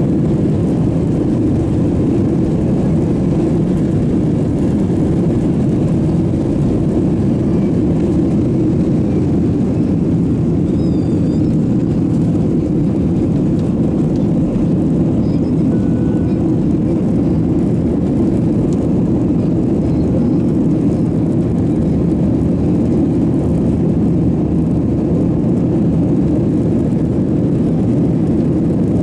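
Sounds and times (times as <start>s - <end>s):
jet engines at takeoff thrust: 0.0s - 29.0s.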